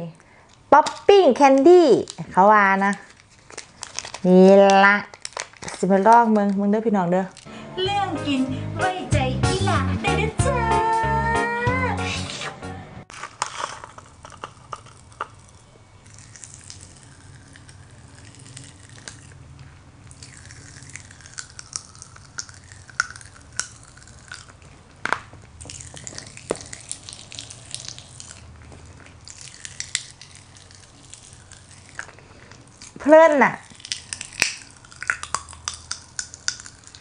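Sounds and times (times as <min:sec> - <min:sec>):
popping candy crackling: 0:00.3 - 0:07.5, 0:13.1 - 0:37.0.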